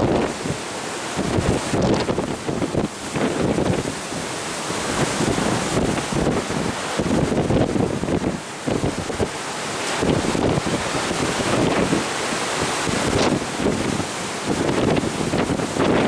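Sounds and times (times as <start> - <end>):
sea water rushing: 0.0 - 16.0
wind buffeting microphone: 0.0 - 16.0.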